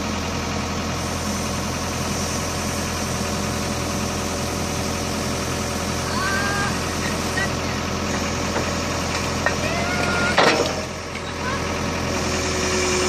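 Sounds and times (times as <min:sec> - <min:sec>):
diesel engine running: 0:00.0 - 0:13.0
hydraulic grapple working: 0:00.0 - 0:13.0.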